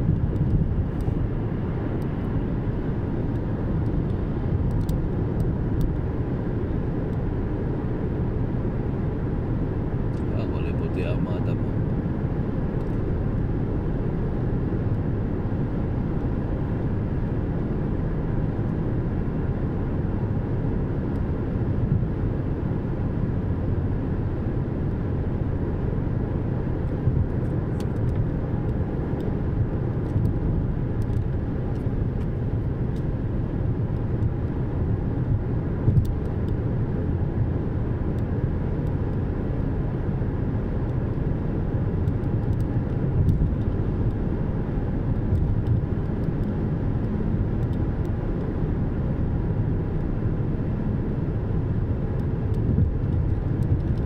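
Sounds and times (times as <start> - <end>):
car cabin road rumble: 0.0 - 54.0.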